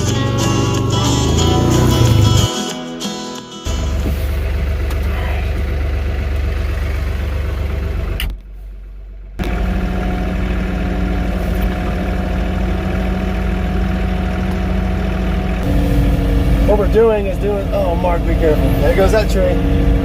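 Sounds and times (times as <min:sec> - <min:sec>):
petrol engine running: 0:00.0 - 0:20.0.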